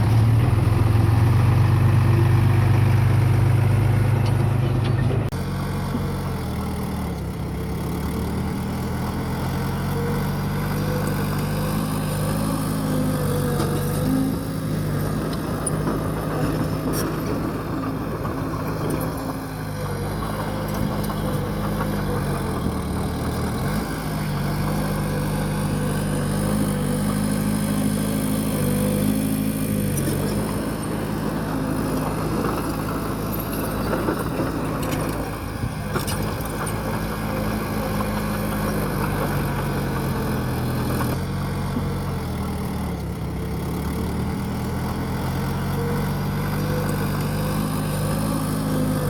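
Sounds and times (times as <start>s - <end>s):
bulldozer diesel engine: 0.0s - 49.0s.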